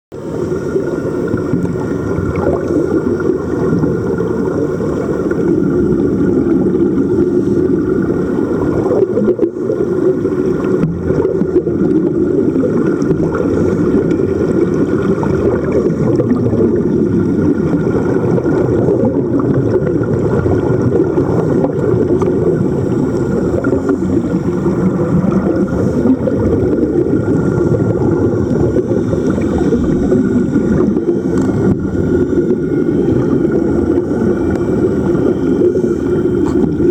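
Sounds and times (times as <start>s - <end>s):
motorboat engine rumble: 0.1s - 36.9s.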